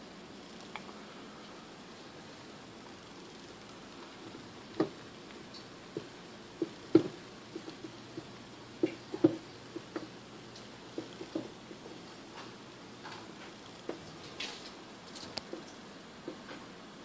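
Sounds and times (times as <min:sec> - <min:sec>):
faint steady hiss: 0:00.0 - 0:17.0
hot fat popping and crackling: 0:02.1 - 0:16.6
juices dripping into tray: 0:02.2 - 0:16.6.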